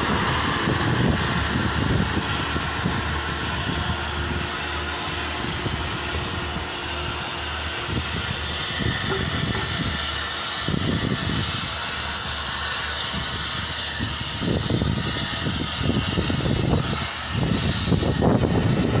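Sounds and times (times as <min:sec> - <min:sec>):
concrete pump running: 0:00.0 - 0:19.0.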